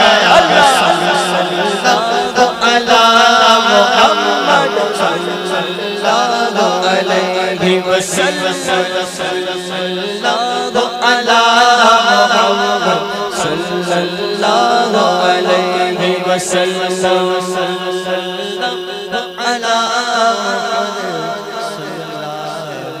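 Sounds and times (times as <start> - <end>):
man singing devotional song: 0.0 - 23.0.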